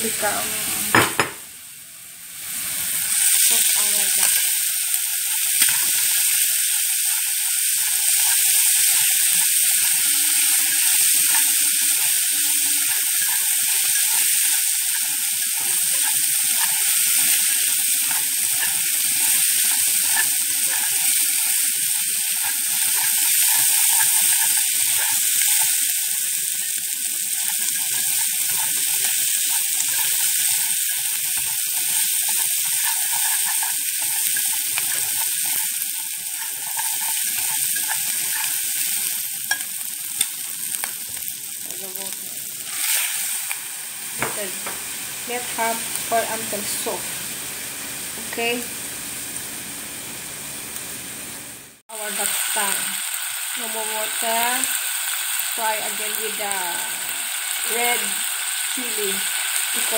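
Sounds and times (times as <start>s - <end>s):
food sizzling in a hot pan: 0.0s - 59.9s.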